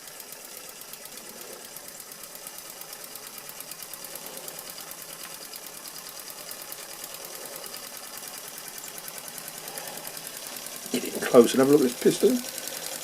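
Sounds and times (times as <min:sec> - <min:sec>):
toy steam engine ticking: 0:00.0 - 0:13.0.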